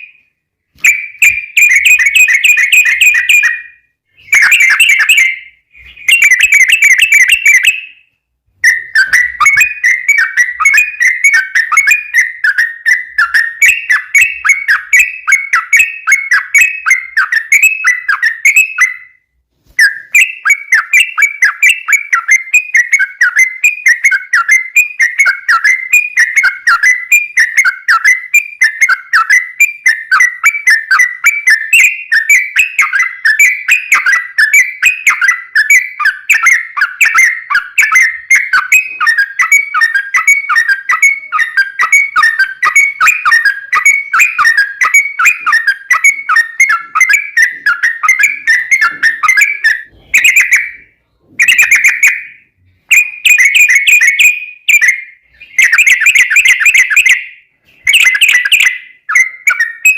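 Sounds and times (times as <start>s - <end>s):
bird singing chattering notes: 0.9s - 7.8s, 8.6s - 19.1s, 19.8s - 59.9s.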